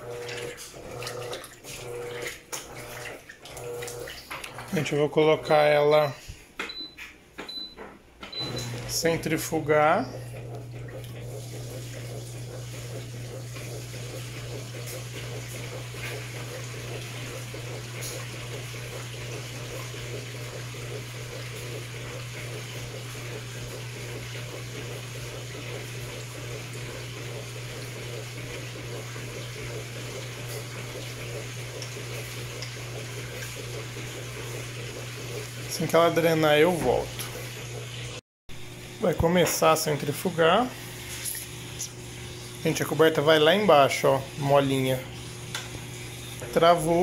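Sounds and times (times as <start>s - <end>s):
drain pump humming: 0.0s - 47.0s.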